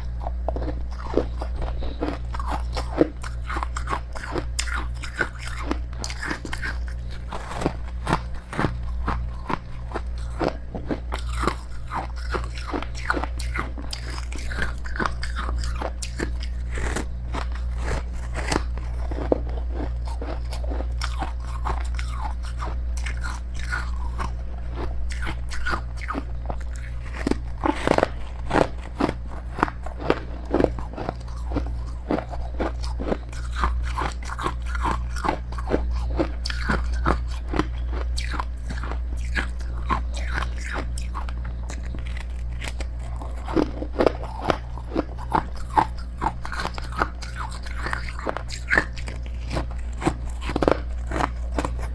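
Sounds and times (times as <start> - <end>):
chewing crunchy frost: 0.0 - 51.9
steady low hum: 0.0 - 51.9.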